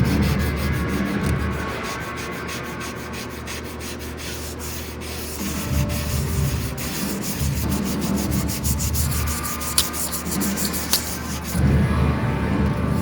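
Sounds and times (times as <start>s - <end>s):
background music: 0.0s - 13.0s
rhythmic rubbing strokes: 0.0s - 13.0s.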